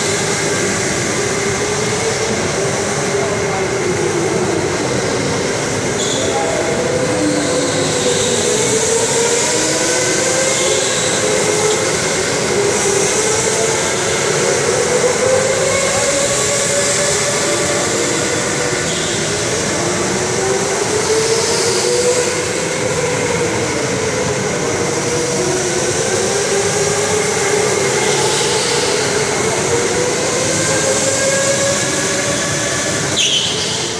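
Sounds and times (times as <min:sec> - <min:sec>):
electric go-kart motors whining: 0:00.0 - 0:33.9.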